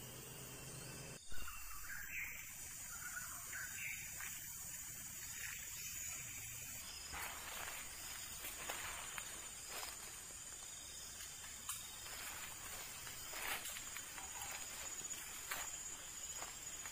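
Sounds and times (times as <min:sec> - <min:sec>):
faint chirping calls: 0:00.0 - 0:16.9
steady outdoor hiss: 0:00.0 - 0:16.9.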